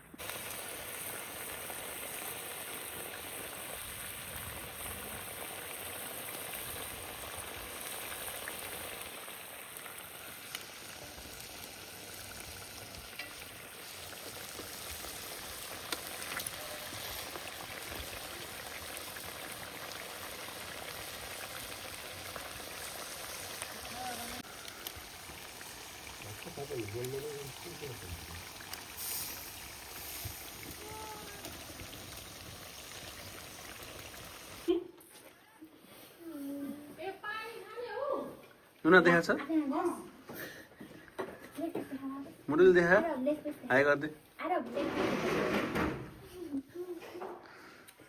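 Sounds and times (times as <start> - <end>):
food sizzling in a pan: 0.0 - 34.8, 42.5 - 46.5.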